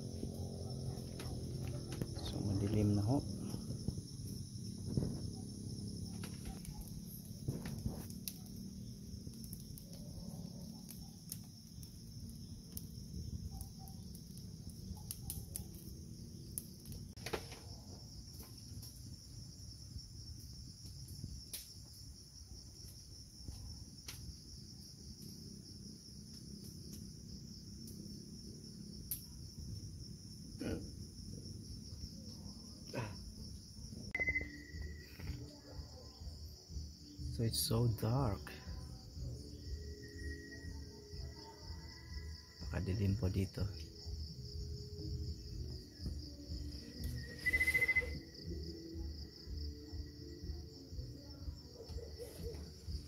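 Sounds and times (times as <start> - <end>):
crickets and night insects chirping: 0.0 - 53.0.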